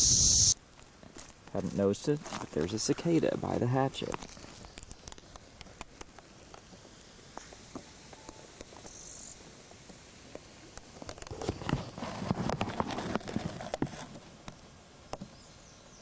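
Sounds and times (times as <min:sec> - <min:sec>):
gravel crunching and clicking: 0:00.7 - 0:09.0, 0:09.8 - 0:14.7.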